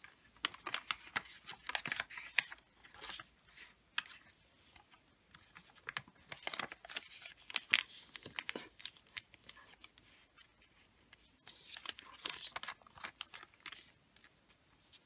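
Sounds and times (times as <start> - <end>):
wrapping paper rustling: 0.0 - 15.0.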